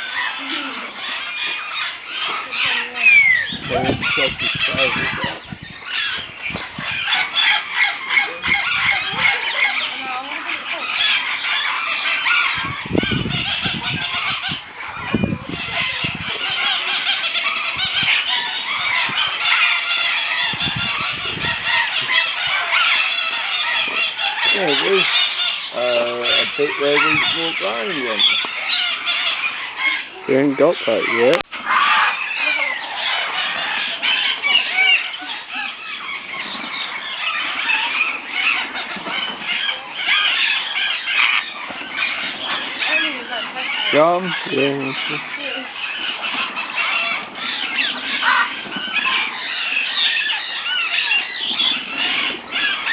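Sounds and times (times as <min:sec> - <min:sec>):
parrots calling: 0:00.0 - 0:52.9.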